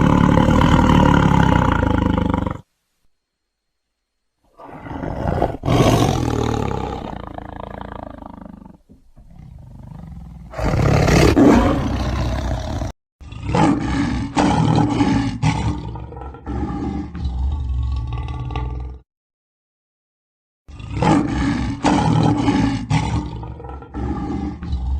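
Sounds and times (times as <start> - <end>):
big cat roaring: 0.0 - 2.7, 4.5 - 19.0, 20.7 - 24.9.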